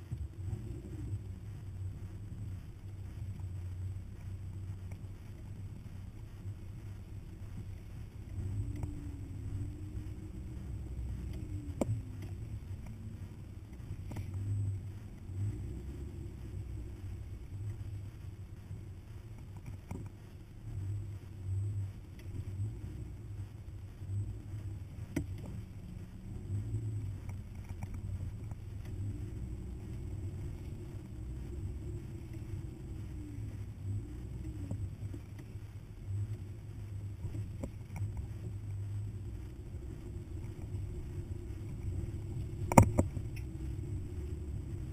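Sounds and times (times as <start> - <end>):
faint wavering whine: 0.0 - 44.9
off-road vehicle engine running: 0.0 - 44.9.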